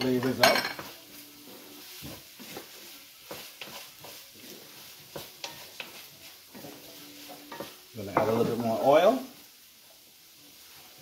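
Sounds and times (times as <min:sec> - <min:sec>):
vegetables sizzling in a pan: 0:00.0 - 0:11.0
wooden spatula scraping a pan: 0:00.0 - 0:11.0.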